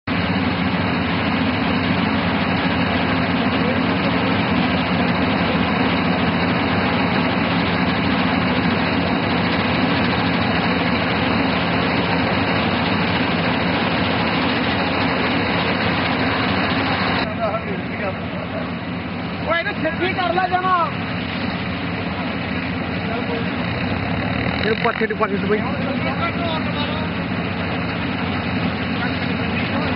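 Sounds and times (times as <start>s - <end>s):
combine harvester running: 0.0s - 29.9s.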